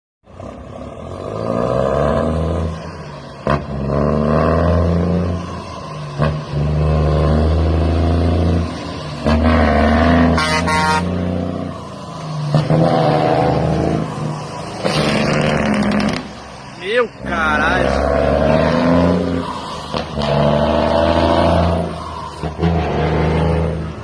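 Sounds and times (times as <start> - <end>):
diesel truck engine revving: 0.2 - 24.0.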